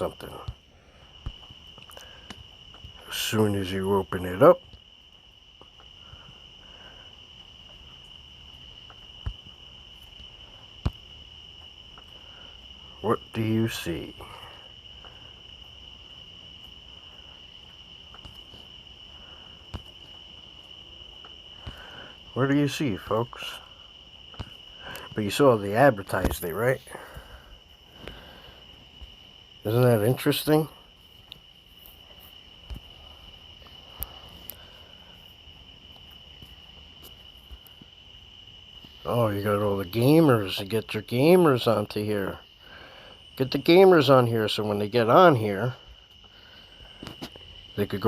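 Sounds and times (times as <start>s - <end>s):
high-pitched insect trill: 0.0s - 48.0s.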